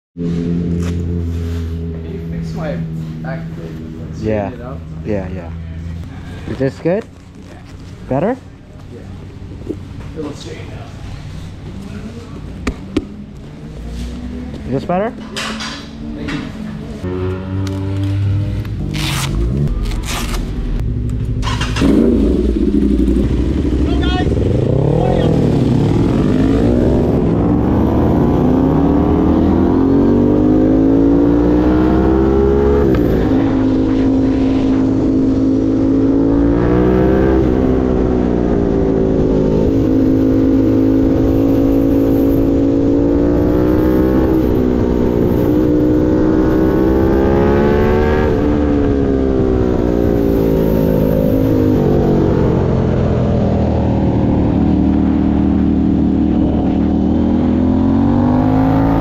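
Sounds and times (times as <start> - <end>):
motorcycle engine revving: 0.2 - 59.0.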